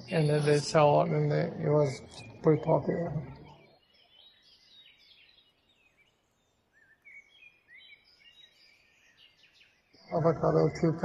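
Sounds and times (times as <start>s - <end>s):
faint bird chirps and trills: 0.0s - 11.0s.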